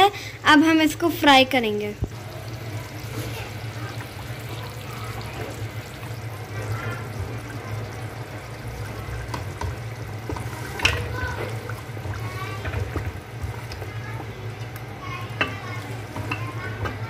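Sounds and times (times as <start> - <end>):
gravy bubbling in pot: 0.7 - 17.0.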